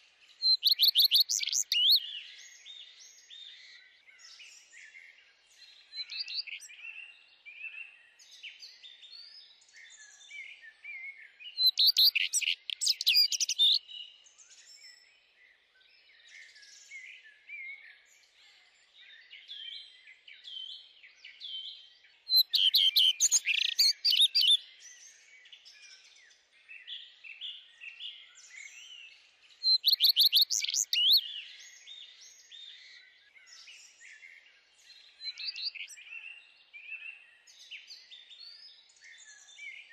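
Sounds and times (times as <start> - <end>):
bird song phrases of rapid notes: 0.0 - 39.9
small birds chirping: 0.0 - 39.9.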